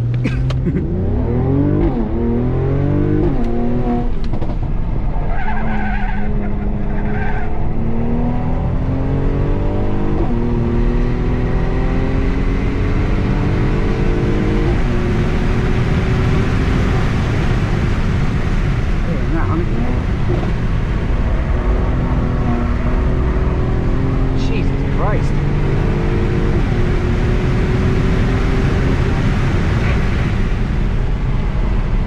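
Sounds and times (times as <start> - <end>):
car engine at full throttle: 0.0 - 32.0.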